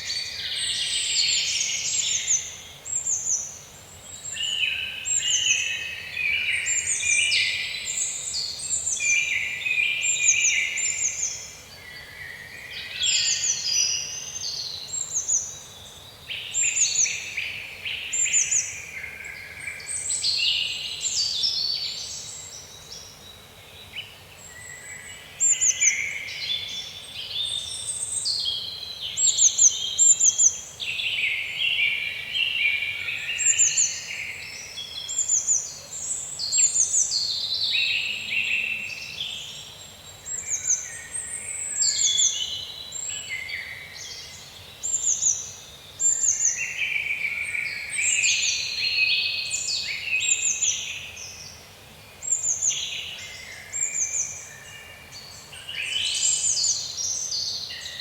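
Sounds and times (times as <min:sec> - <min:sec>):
faint steady hiss: 0:00.0 - 0:58.0
songbirds singing: 0:00.0 - 0:58.0.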